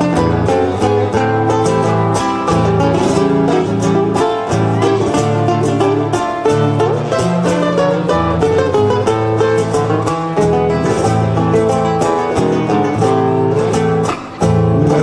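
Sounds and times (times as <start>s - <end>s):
folk guitar melody over bass: 0.0s - 15.0s.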